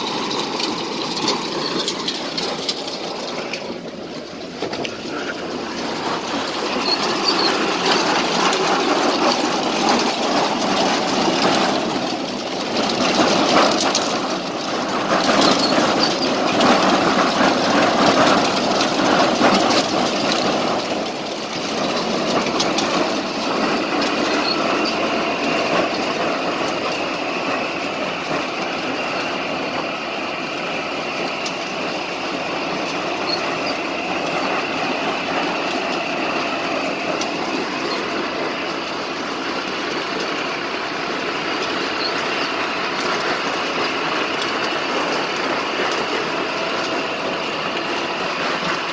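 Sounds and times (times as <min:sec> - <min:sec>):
harvester mechanical clatter: 0:00.0 - 0:48.9
tractor engine: 0:00.0 - 0:48.9.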